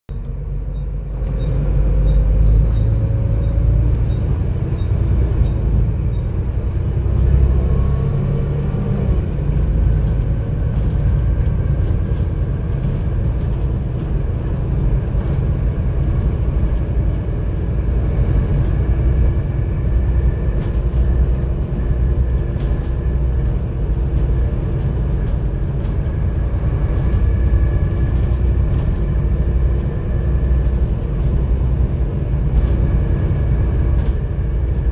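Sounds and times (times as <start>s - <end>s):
bus diesel engine running: 0.1s - 34.9s
heavy low rumble: 0.1s - 34.9s.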